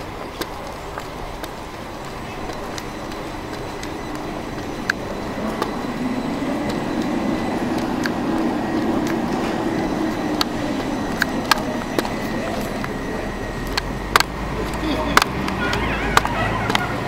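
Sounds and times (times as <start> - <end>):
vehicle passing rumble: 0.0 - 17.0.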